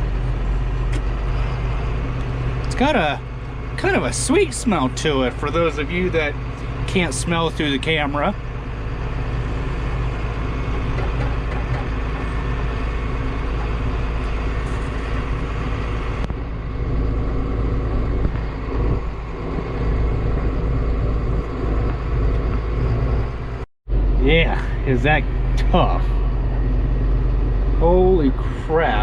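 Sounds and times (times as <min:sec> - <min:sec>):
combine harvester engine rumble: 0:00.0 - 0:29.0.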